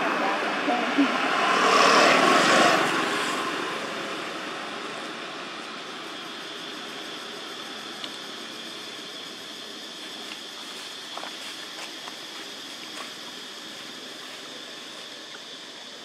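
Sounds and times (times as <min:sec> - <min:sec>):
constant high whine: 0:00.0 - 0:16.0
steady background hiss: 0:00.0 - 0:16.0.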